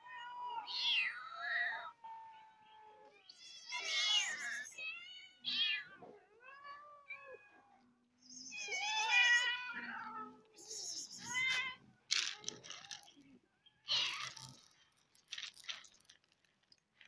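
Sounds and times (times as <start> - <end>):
cats meowing: 0.0 - 13.2, 13.8 - 14.8.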